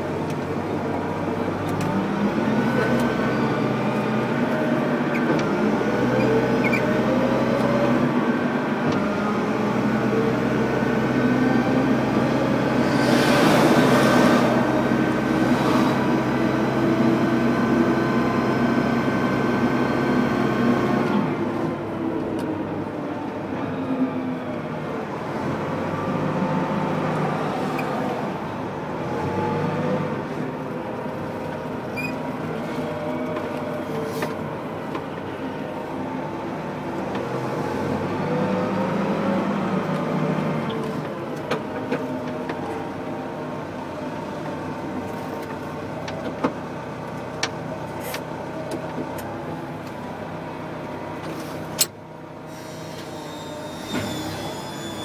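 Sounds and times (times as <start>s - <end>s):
forklift engine running: 0.0s - 55.0s.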